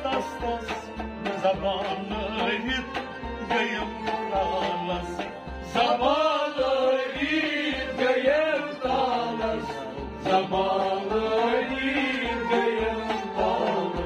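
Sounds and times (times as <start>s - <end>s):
harmonium chords: 0.0s - 14.0s
man singing: 0.0s - 14.0s.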